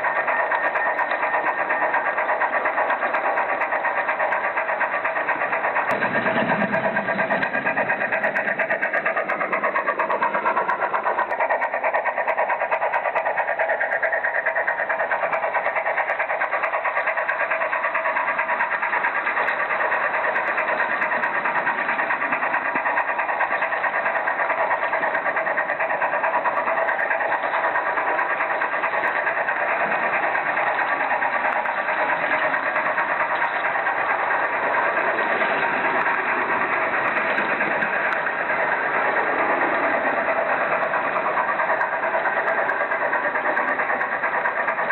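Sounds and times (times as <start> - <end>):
model train motor whirring: 0.0 - 44.9.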